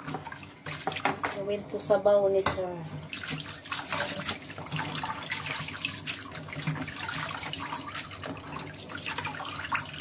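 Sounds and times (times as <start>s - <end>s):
tap water splashing in sink: 0.0s - 10.0s.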